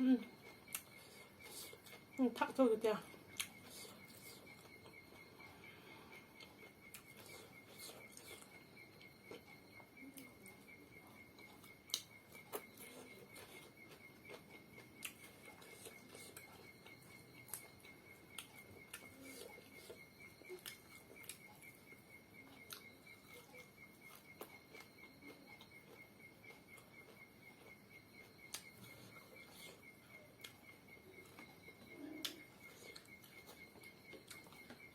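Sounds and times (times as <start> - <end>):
chewing clicks and smacks: 0.3 - 5.5, 6.1 - 34.9.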